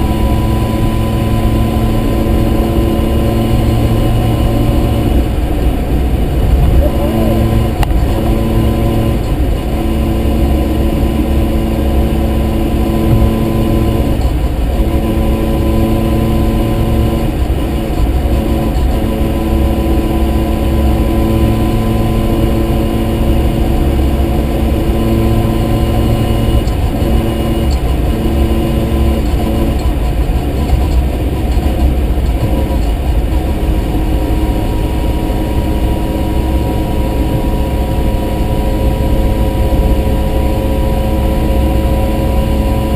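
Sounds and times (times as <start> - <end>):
car engine drone: 0.0 - 42.9
low road rumble: 0.0 - 42.9.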